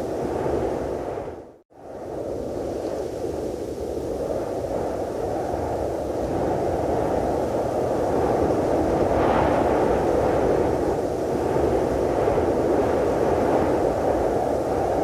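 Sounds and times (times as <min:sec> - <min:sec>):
deep blowing wind: 0:00.0 - 0:15.0.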